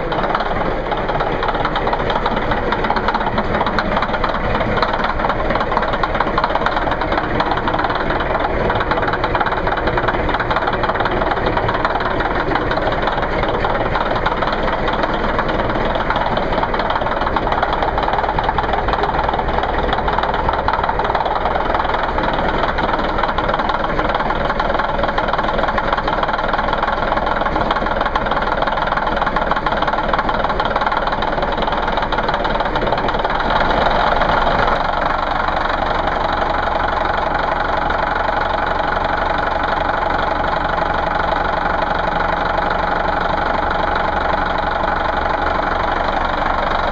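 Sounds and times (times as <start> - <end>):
bulldozer diesel engine idling: 0.0 - 46.9.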